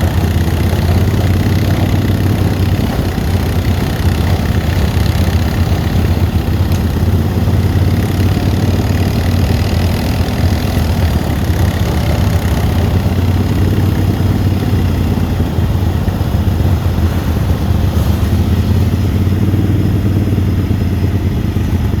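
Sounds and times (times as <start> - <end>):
lawn mower engine humming: 0.0 - 22.0.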